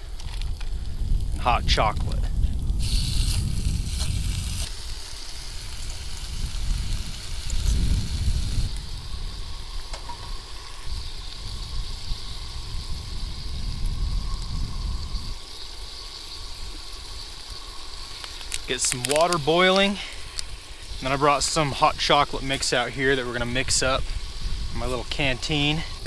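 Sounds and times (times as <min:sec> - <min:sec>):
bacon sizzling in a pan: 0:00.0 - 0:26.0.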